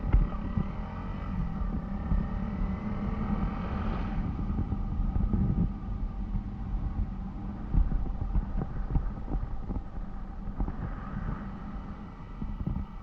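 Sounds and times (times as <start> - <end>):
low rumble: 0.0 - 13.0
motorcycle engine running: 0.0 - 13.0
wind buffeting microphone: 0.0 - 13.0.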